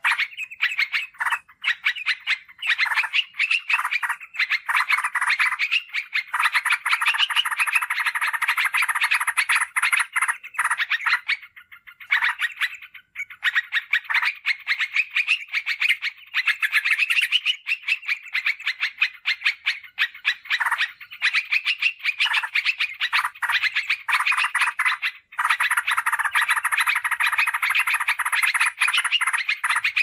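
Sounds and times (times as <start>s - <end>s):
bulbul chattering song: 0.0s - 30.0s.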